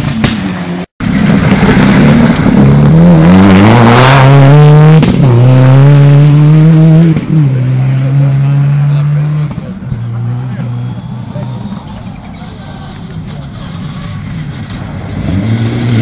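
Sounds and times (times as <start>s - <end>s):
rally car engine at full throttle: 0.0s - 16.0s.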